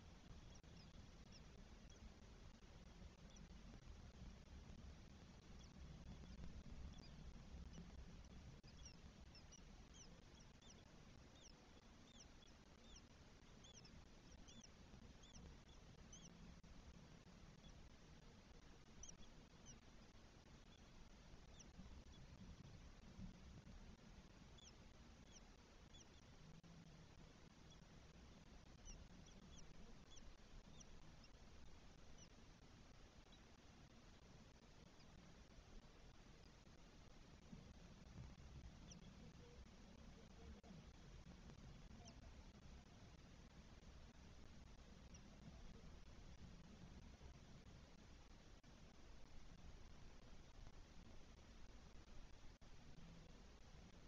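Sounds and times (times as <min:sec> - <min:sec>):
faint microphone hiss: 0:00.0 - 0:54.0
low steady hum: 0:00.0 - 0:54.0
nestlings peeping: 0:00.0 - 0:54.0.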